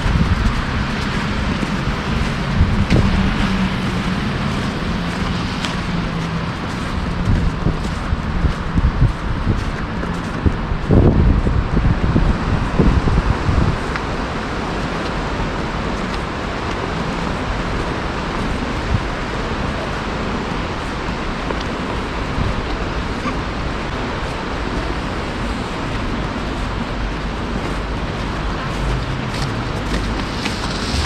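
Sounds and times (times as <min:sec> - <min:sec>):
road traffic noise: 0:00.0 - 0:31.0
wind buffeting microphone: 0:00.0 - 0:31.0.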